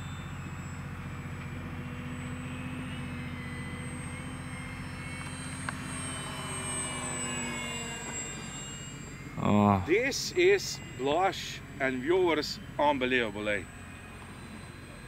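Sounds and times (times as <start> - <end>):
model plane propeller whine: 0.0 - 15.0.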